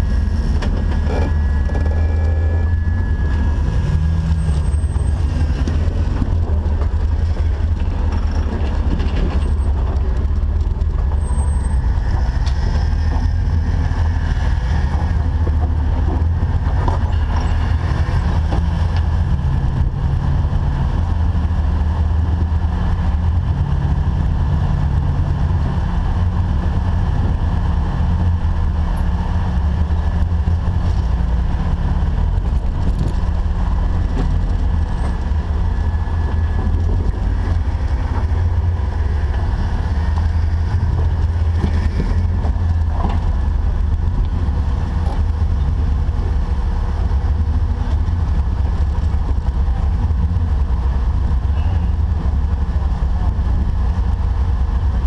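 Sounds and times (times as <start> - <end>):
engine running low rumble: 0.0 - 55.0.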